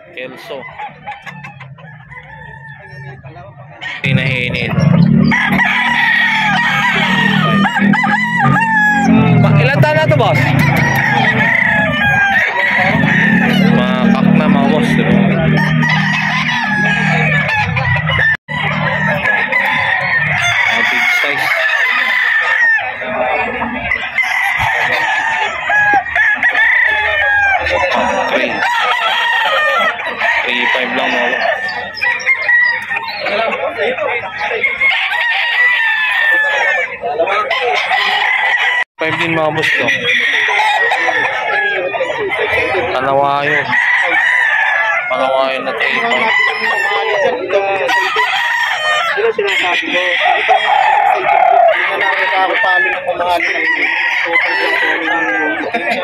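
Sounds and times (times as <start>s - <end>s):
roosters crowing: 0.0s - 56.0s.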